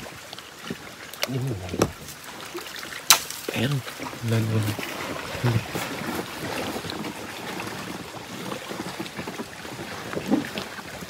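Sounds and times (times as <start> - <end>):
fish thrashing in water: 0.0 - 11.0.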